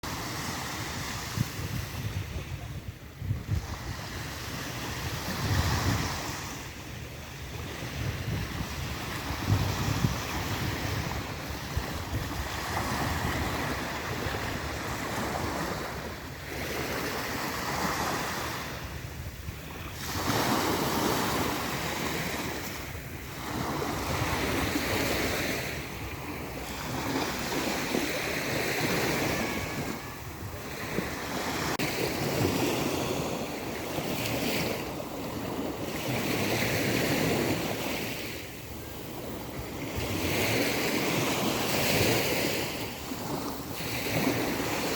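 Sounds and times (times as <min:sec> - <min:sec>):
surf washing onto shore: 0:00.0 - 0:44.9
wind rumbling on microphone: 0:00.0 - 0:44.9.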